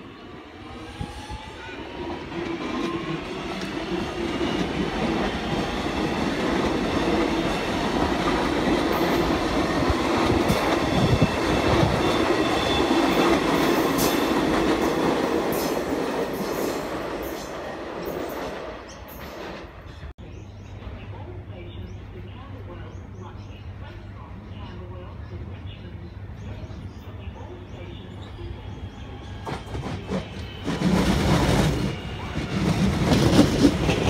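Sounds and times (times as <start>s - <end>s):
train running past: 0.0s - 34.0s.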